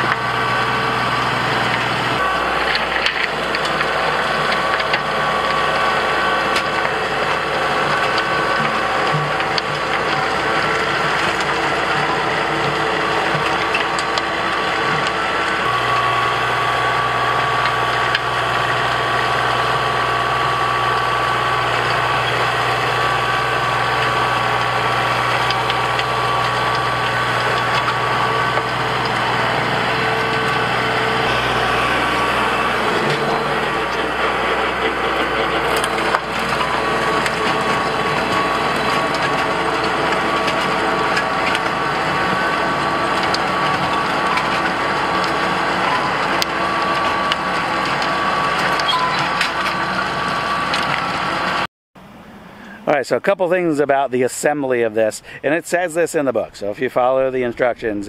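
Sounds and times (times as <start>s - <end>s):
rotary tiller churning soil: 0.0s - 51.7s
diesel tractor engine under load: 0.0s - 58.0s.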